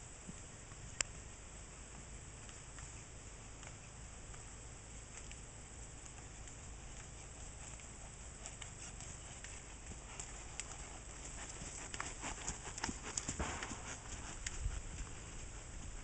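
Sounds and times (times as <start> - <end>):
horse hooves on soft dirt: 0.0 - 16.0.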